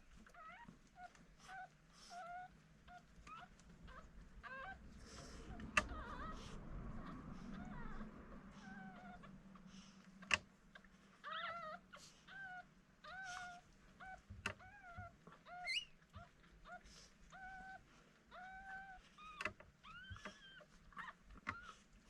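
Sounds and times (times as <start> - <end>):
puppies crying: 0.2 - 22.0.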